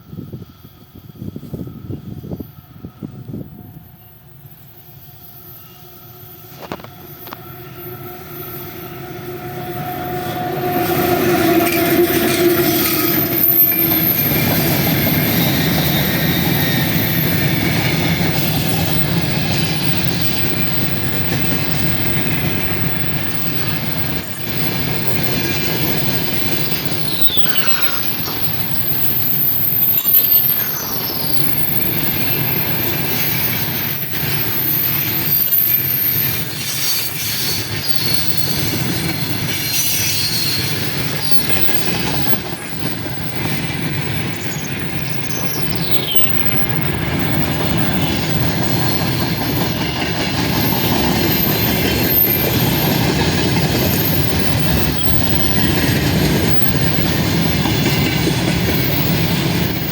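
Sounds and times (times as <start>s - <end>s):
train wheels rumbling on rail: 0.0s - 59.9s
high wheel squeal: 3.1s - 59.9s.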